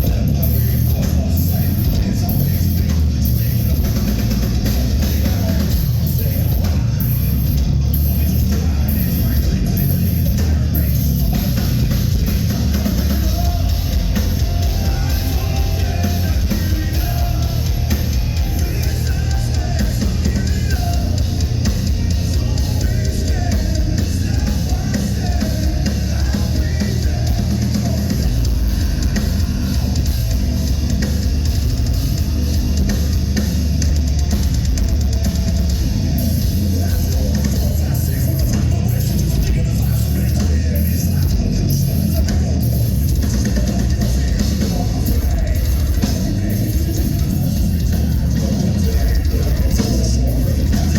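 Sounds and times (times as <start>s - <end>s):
bass drum: 0.0s - 50.9s
heavy metal band playing live: 0.0s - 50.9s.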